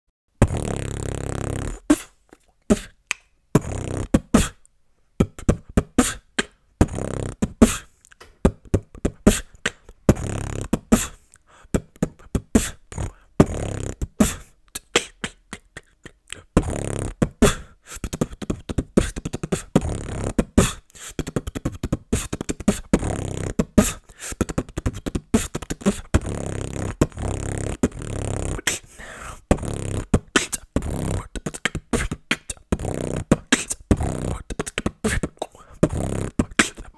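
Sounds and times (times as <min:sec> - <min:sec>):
person beatboxing: 0:00.4 - 0:36.9.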